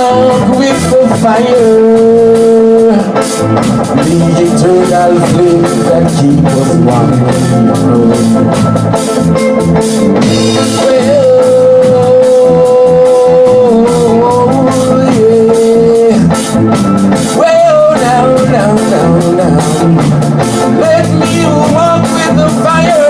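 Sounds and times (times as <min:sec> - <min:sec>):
drum kit steady beat: 0:00.0 - 0:23.0
gospel band playing: 0:00.0 - 0:23.0.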